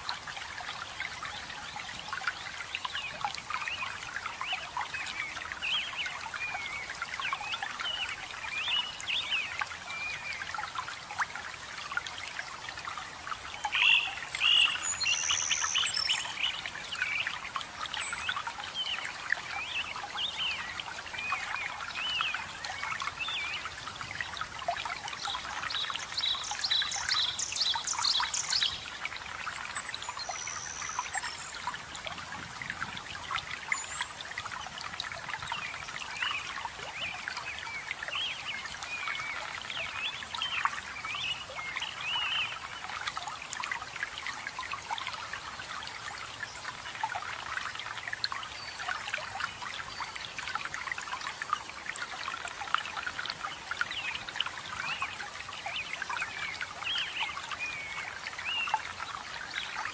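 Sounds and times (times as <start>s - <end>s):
waterfall splashing and trickling: 0.0s - 59.9s.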